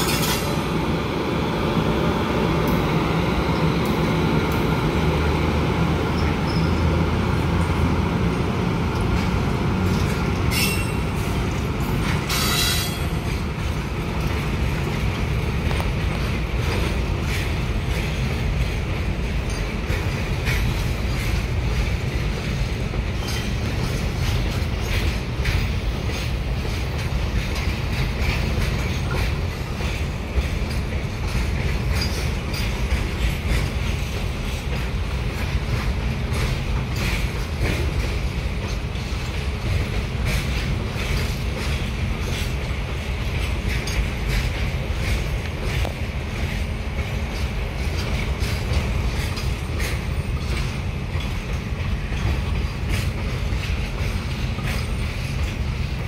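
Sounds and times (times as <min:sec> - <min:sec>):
electric locomotive passing: 0:00.0 - 0:56.0
wheels clicking over rail joints: 0:05.4 - 0:56.0
wagon wheels rumbling on rails: 0:06.1 - 0:56.0.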